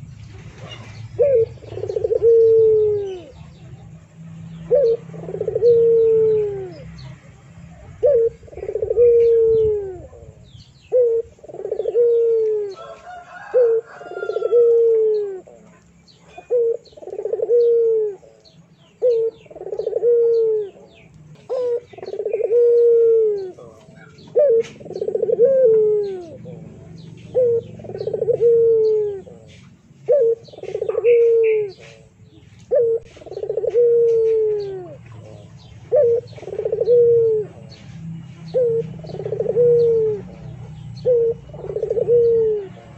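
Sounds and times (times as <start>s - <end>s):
bird low falling calls: 0.0s - 7.2s, 7.9s - 42.9s.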